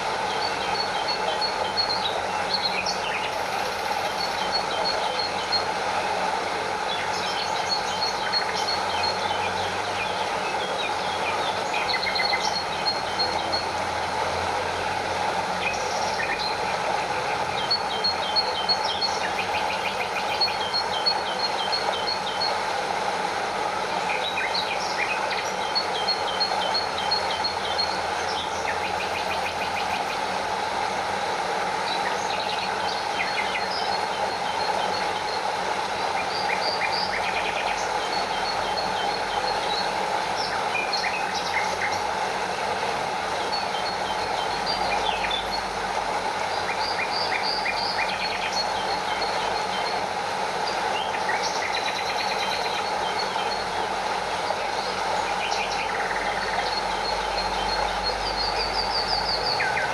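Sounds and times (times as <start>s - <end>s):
stream and small waterfall rushing: 0.0s - 59.9s.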